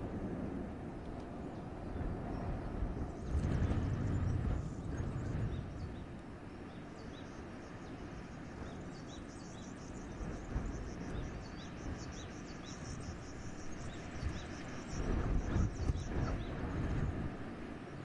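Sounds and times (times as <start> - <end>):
wind blowing: 0.0 - 18.0.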